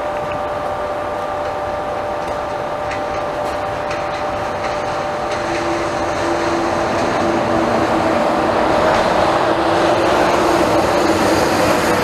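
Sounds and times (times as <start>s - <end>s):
diesel locomotive engine hum: 0.0s - 12.0s.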